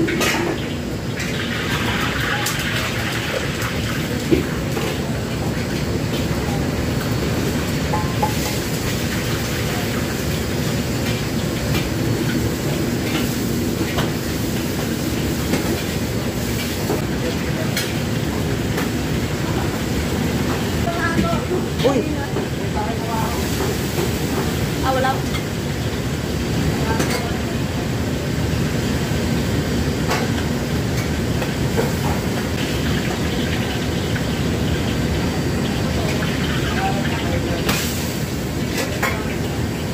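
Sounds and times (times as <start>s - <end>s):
kitchen extraction hood: 0.0s - 39.9s
wok burners roaring: 0.0s - 39.9s.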